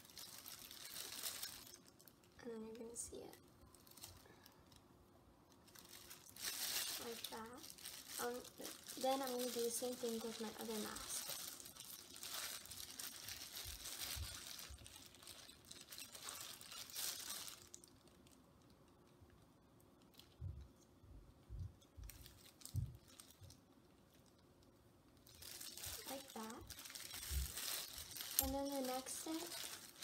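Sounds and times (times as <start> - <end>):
plastic sheeting crinkling: 0.0 - 4.8, 5.5 - 20.8, 21.5 - 30.0.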